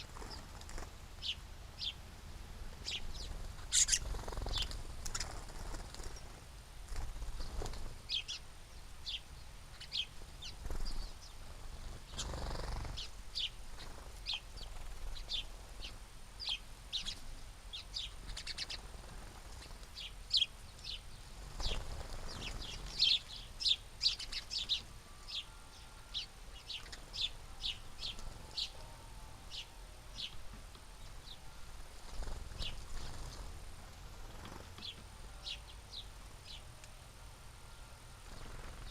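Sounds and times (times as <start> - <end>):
small birds chirping: 0.0 - 36.7, 37.8 - 38.9.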